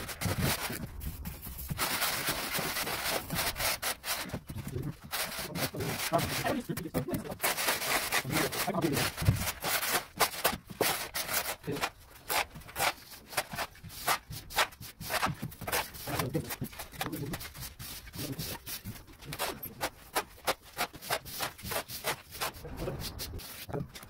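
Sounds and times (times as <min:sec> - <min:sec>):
trowel scraping cement mix: 0:00.0 - 0:24.0.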